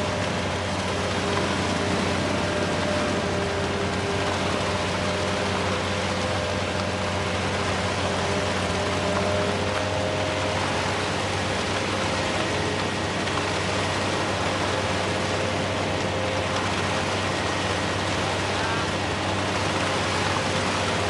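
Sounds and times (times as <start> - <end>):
heavy engine running: 0.0 - 21.0
low hum: 0.0 - 21.0.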